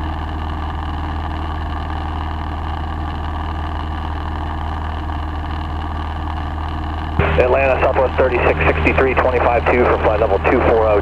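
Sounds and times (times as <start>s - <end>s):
airplane engine and propeller drone: 0.0s - 11.0s.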